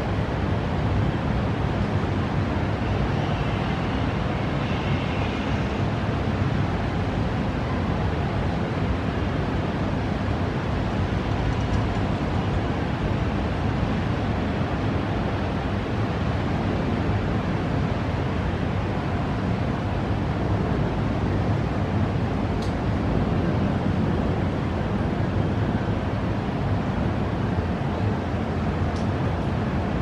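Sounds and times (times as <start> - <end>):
wind: 0.0 - 30.0.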